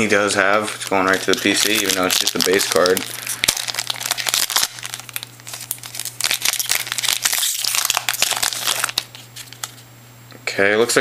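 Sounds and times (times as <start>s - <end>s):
wrapper crinkling and tearing: 0.5s - 9.8s.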